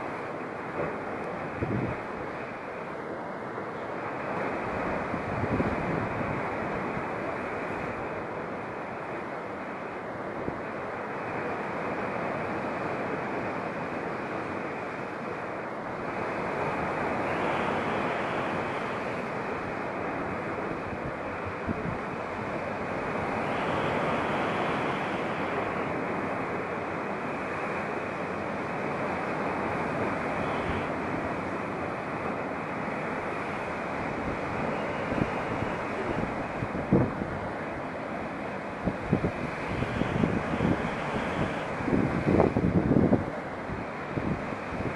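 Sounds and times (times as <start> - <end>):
surf breaking on rocky shore: 0.0 - 44.9.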